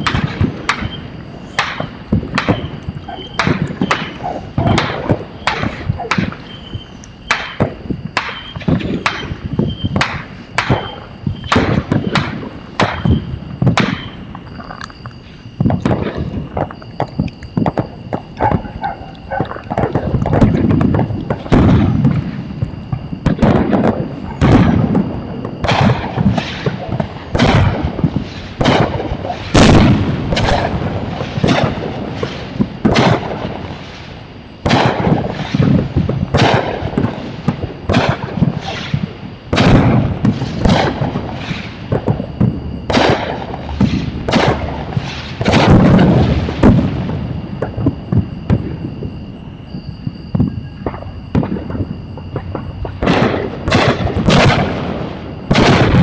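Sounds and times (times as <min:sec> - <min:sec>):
faint high-pitched whine: 0:00.0 - 0:56.0
fireworks bangs: 0:00.0 - 0:56.0
low rolling boom: 0:00.0 - 0:56.0.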